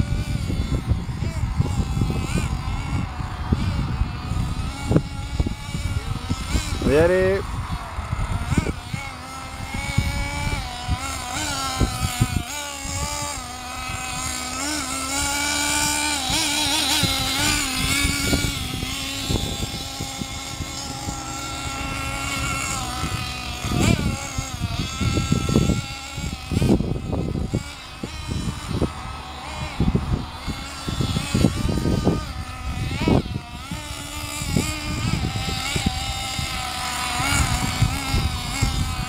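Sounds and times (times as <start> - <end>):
small nitro engine revving: 0.0 - 39.0.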